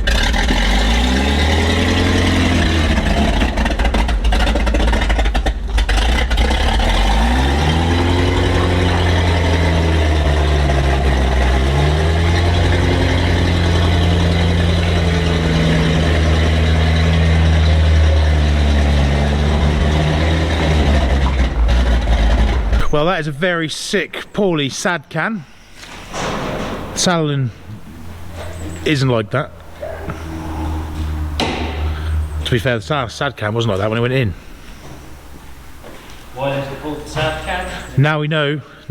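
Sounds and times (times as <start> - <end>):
engine running loud and rough: 0.0 - 23.4, 26.1 - 35.4.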